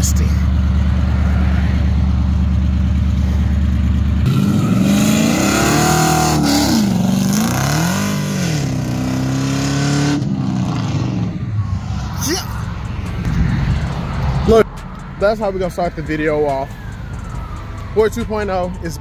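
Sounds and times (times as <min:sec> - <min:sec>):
vee eight engine rumbling and revving: 0:00.0 - 0:19.0.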